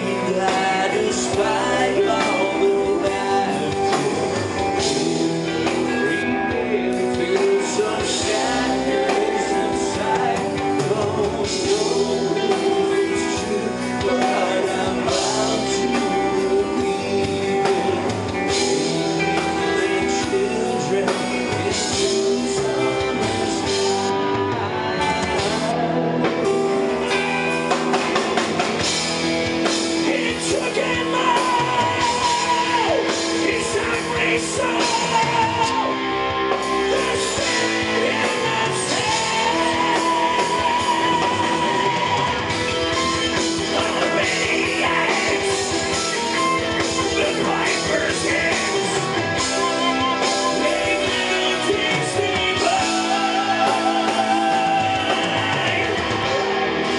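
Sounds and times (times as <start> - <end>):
bass guitar: 0.0 - 56.9
electric guitars: 0.0 - 56.9
male singer with vibrato: 0.0 - 56.9.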